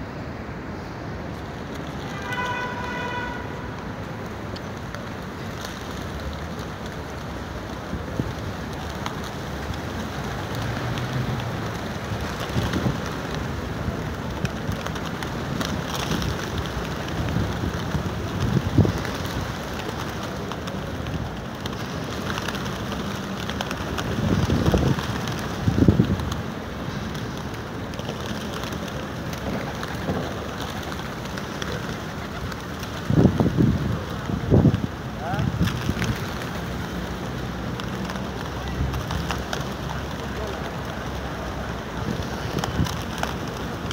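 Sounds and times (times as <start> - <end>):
pigeons flapping wings: 1.4 - 43.9.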